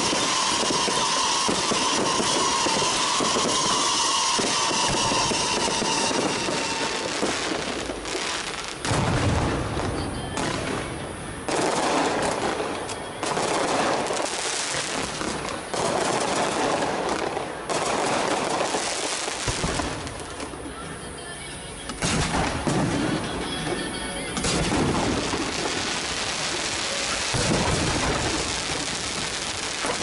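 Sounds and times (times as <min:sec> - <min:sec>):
firecrackers crackling: 0:00.0 - 0:21.0, 0:21.8 - 0:30.0.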